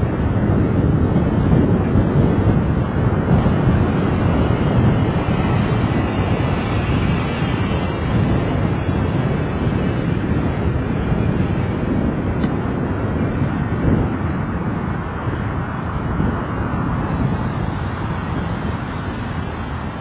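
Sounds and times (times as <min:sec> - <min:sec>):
road and traffic noise: 0:00.0 - 0:20.0
wind rumble on microphone: 0:00.0 - 0:20.0.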